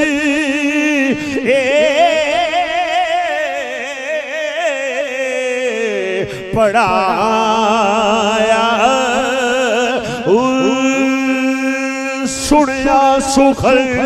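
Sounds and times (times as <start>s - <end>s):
man singing with vibrato: 0.0s - 14.0s.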